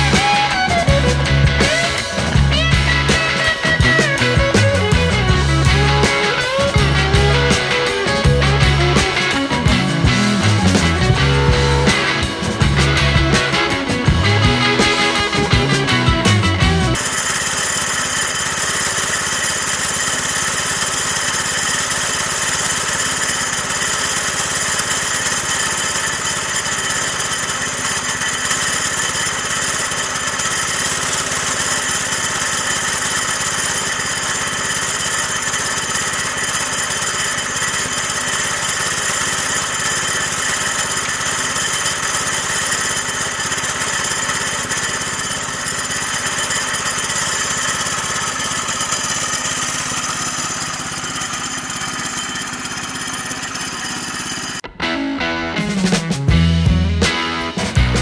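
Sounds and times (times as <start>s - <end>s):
small gasoline engine running: 0.0s - 54.6s.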